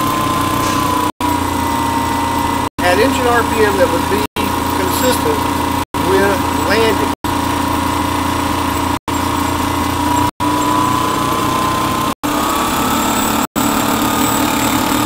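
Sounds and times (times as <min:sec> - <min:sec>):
electric motor hum and whine: 0:00.0 - 0:15.0.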